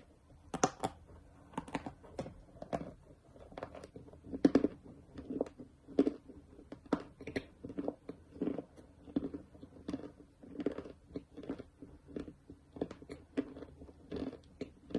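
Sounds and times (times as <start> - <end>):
mouth chewing crunchy clay: 0.0 - 14.9.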